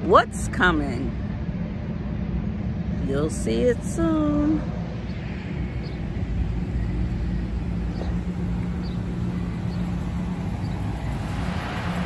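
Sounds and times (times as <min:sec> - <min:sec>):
truck engine low drone: 0:00.0 - 0:12.0.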